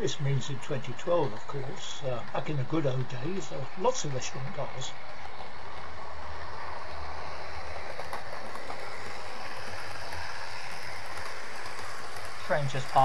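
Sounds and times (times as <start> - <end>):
model trains rattling on track: 0.0 - 13.0.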